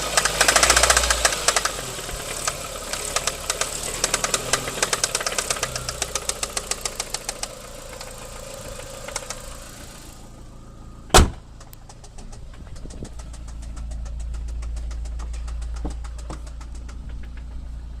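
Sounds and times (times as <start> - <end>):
car engine knocking: 0.0 - 18.0
engine light fast ticking: 0.0 - 18.0.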